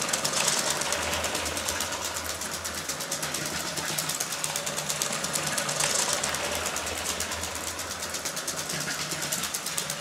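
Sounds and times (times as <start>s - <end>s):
toy train motor whirring: 0.0s - 10.0s
wheels and gears clicking: 0.0s - 10.0s.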